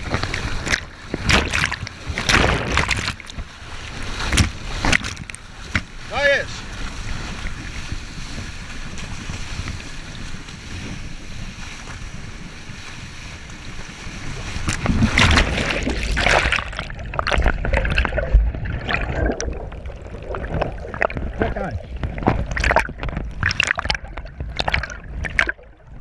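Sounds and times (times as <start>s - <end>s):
jet ski engine rumble: 0.0s - 26.0s
water splashing and sloshing: 0.0s - 26.0s
wind noise on microphone: 0.0s - 26.0s.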